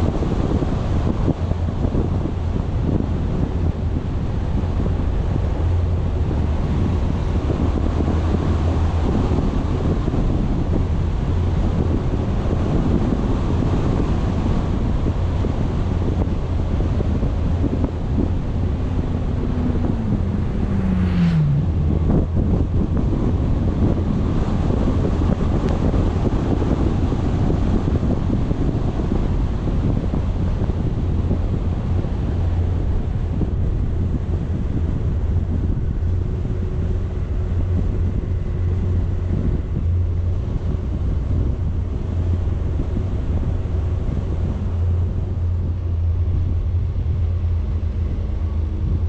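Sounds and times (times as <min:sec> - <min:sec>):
vehicle rumble: 0:00.0 - 0:49.0
wind buffeting microphone: 0:00.0 - 0:49.0.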